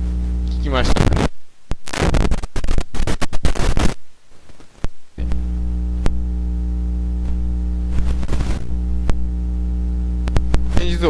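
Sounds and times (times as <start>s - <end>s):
crackly static noise: 0.0s - 11.0s
electrical mains hum: 0.0s - 11.0s.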